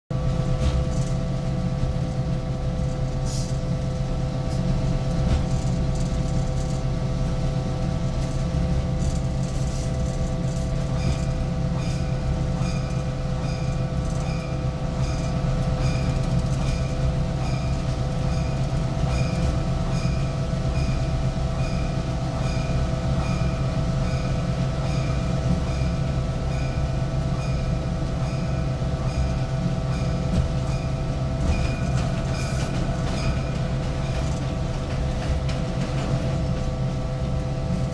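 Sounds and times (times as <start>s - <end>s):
constant whine: 0.1s - 37.9s
locomotive engine drone: 0.1s - 37.9s.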